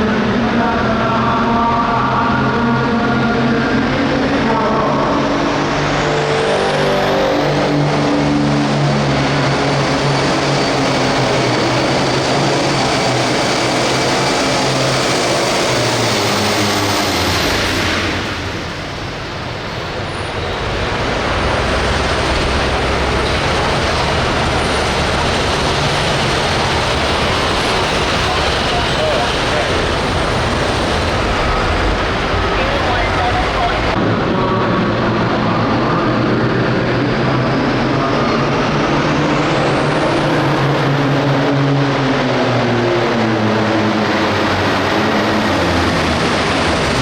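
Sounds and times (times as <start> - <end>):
tractor diesel engine at full throttle: 0.0 - 47.0.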